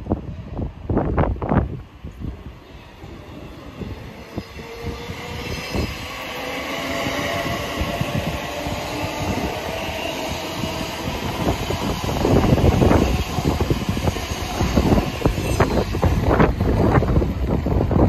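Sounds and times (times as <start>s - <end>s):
electric train whine: 0.0s - 18.0s
train rumbling and clattering: 0.0s - 18.0s.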